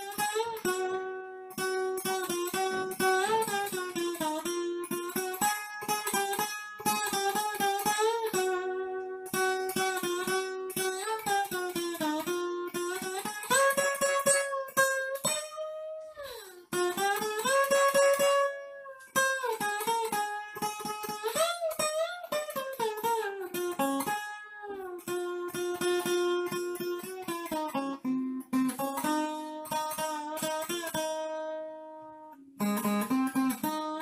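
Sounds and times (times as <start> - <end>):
slide guitar melody: 0.0 - 34.0.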